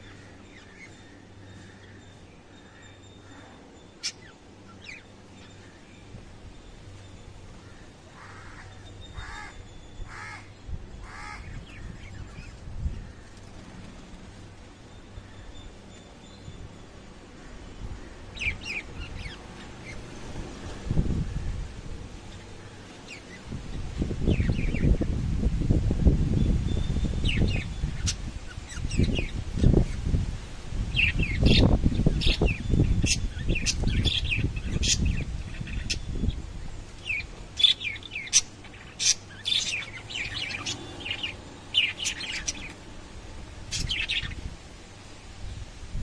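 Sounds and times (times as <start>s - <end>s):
birds chirping: 0.0s - 25.2s, 26.3s - 45.6s.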